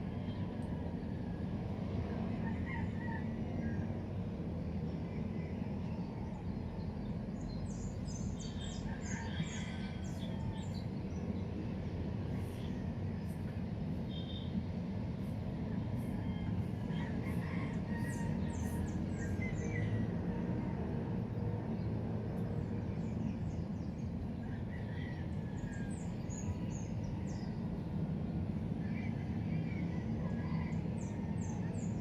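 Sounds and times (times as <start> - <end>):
low outdoor rumble: 0.0 - 32.0.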